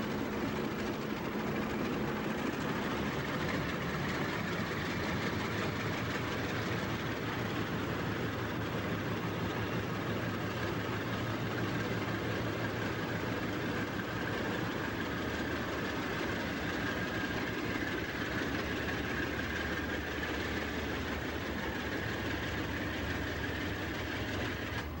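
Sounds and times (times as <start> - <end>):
freight train rumbling on rails: 0.0 - 25.0.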